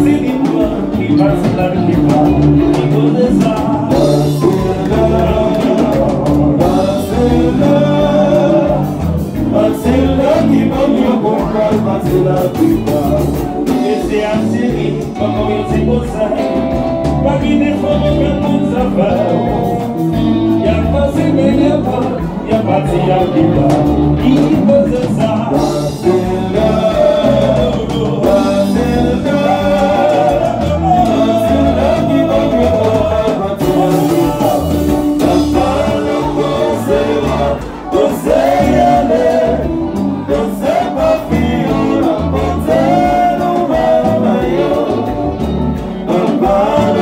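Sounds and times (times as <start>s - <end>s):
dance band playing: 0.0s - 47.0s
men singing: 0.0s - 47.0s.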